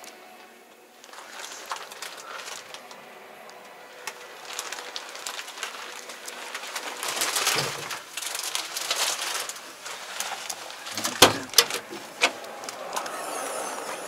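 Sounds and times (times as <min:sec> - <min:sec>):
rustling and handling noise: 0:00.0 - 0:14.0.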